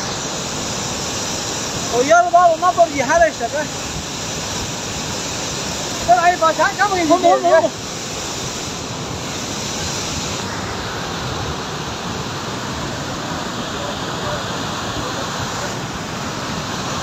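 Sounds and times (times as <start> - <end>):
floodwater torrent rushing: 0.0 - 17.0.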